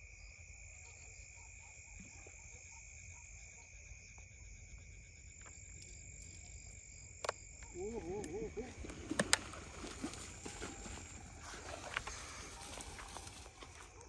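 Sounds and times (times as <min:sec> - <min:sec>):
insects trilling: 0:00.0 - 0:14.0
frog calls: 0:00.6 - 0:14.0.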